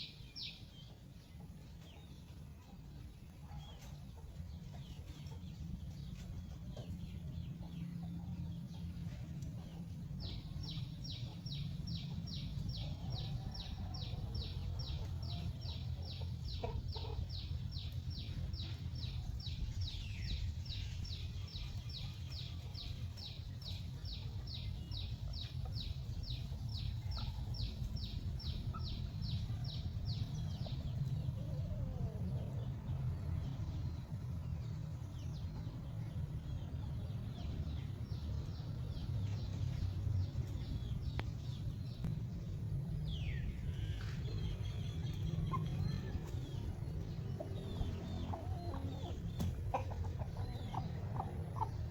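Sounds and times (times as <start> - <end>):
chickens clucking: 0.9 - 19.9, 20.5 - 41.8, 43.5 - 51.9.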